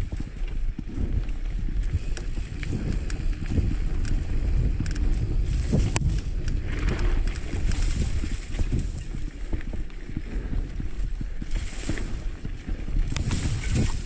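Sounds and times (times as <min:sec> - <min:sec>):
bike rattling over bumps: 0:00.0 - 0:14.0
bike tyres rolling on dirt: 0:00.0 - 0:14.0
wind buffeting microphone: 0:00.0 - 0:14.0.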